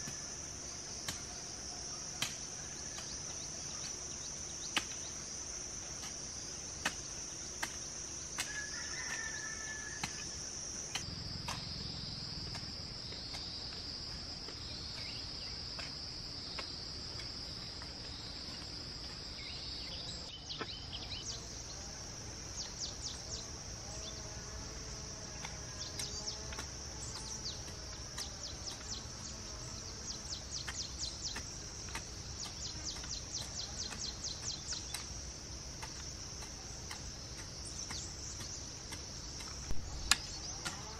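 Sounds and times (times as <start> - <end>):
insects droning: 0.0 - 40.9
pulsing insect chirps: 0.0 - 40.9.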